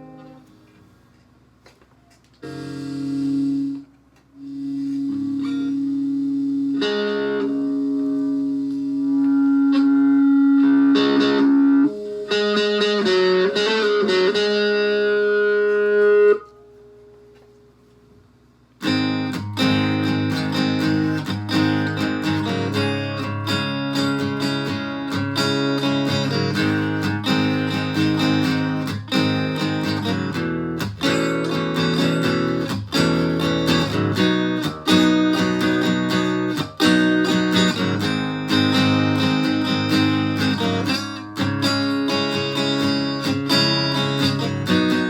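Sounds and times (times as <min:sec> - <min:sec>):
distorted guitar notes and chords: 0:02.4 - 0:17.5, 0:18.8 - 0:45.0
rapid strummed guitar chords: 0:04.4 - 0:17.3, 0:18.8 - 0:45.0.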